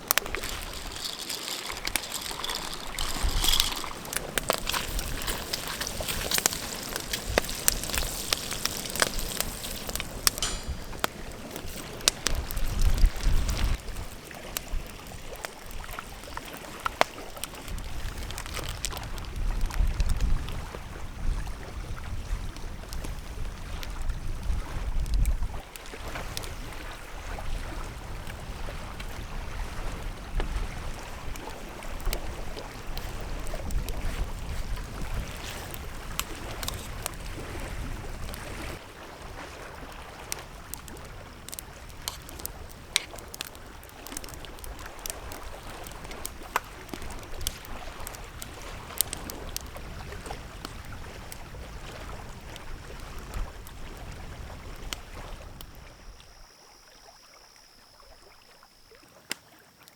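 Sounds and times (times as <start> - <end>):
wind buffeting microphone: 0.0 - 16.3, 17.4 - 56.1
small sharp ticks and drips: 0.0 - 38.8, 39.4 - 59.9
water lapping around canoe: 0.0 - 59.9.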